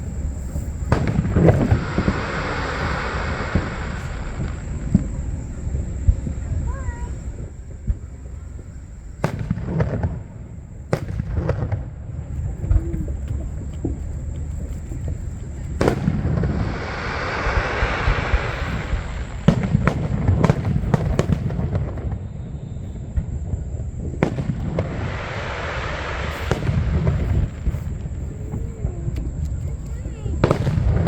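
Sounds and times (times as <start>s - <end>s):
firework booms: 0.0s - 31.0s
firework crackling: 0.0s - 31.0s
sharp firework bangs: 0.0s - 31.0s.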